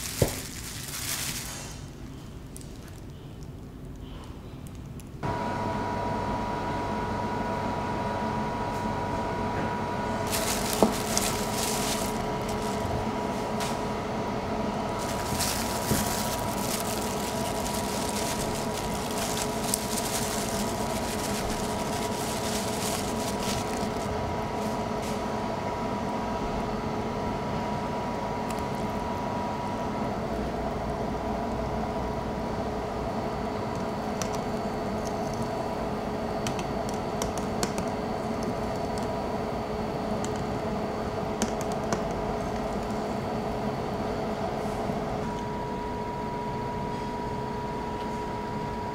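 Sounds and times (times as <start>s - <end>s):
machine hum: 5.2s - 48.9s.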